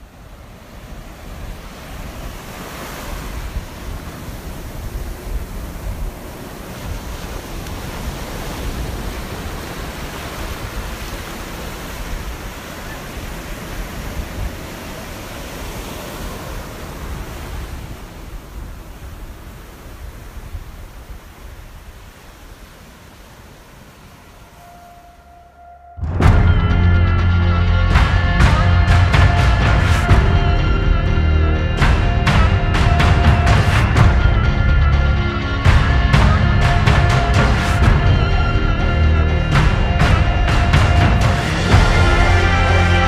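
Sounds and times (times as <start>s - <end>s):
ocean waves breaking: 0.0s - 43.0s.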